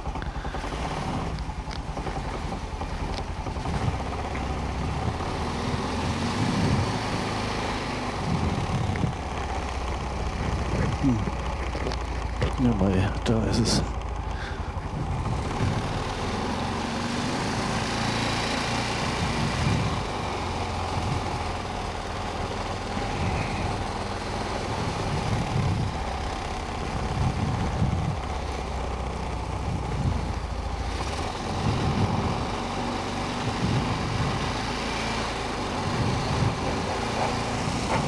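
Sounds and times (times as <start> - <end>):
quad engine revving: 0.0 - 38.0.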